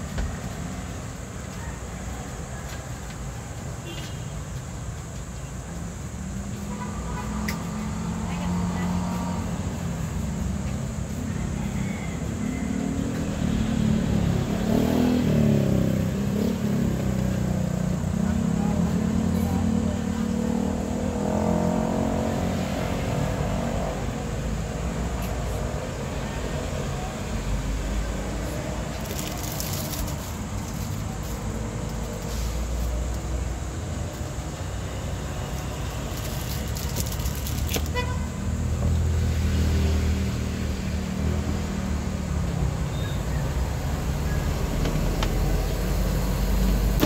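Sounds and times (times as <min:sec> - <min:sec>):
vehicles passing by: 0:00.0 - 0:47.0
engines running close by: 0:05.8 - 0:47.0.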